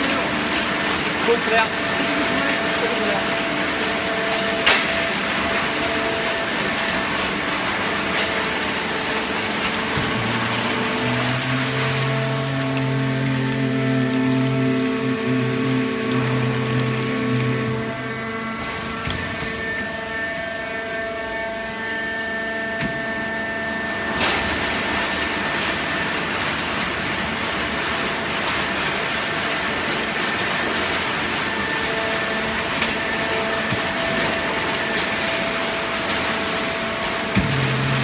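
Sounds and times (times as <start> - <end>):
industrial machine hum: 0.0 - 38.0.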